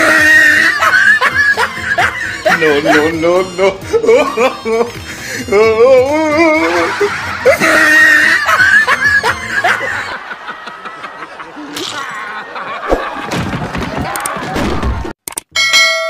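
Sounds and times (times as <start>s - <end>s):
background music: 0.0s - 13.3s
people laughing hard: 0.0s - 14.6s.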